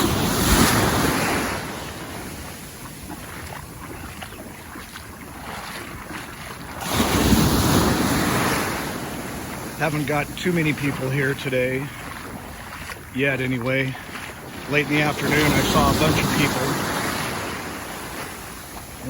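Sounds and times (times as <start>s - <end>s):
surf washing up beach: 0.0s - 19.0s
wind buffeting microphone: 0.0s - 19.0s.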